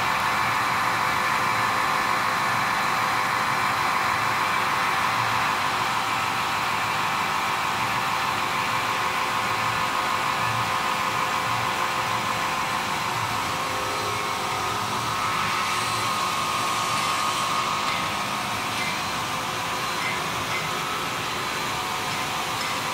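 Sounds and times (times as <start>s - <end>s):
mixing machinery whirring: 0.0s - 22.9s.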